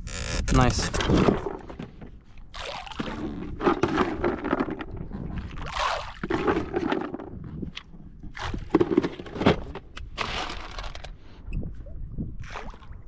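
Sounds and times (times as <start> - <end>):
oars dipping and pulling: 0.2 - 11.4
water sloshing and splashing: 0.9 - 11.2, 12.3 - 13.0.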